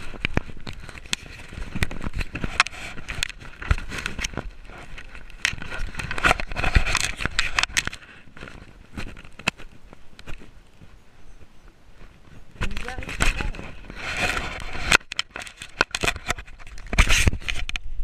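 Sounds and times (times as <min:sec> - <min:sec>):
fingers handling camera on microphone: 0:00.0 - 0:11.0, 0:12.0 - 0:18.0.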